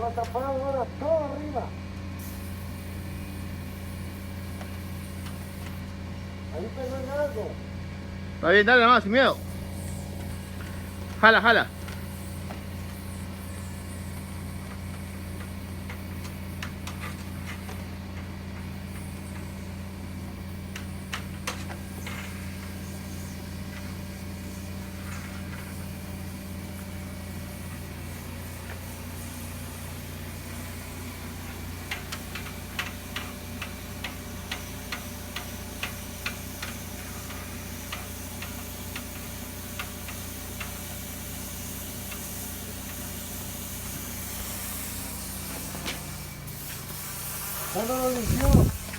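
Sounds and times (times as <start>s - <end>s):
cleaning equipment humming: 0.0s - 48.9s.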